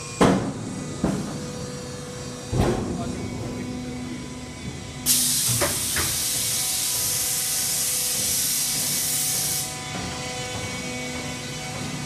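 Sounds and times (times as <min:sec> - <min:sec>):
faint machine hum: 0:00.0 - 0:12.0
loud steady machine hiss: 0:00.0 - 0:12.0.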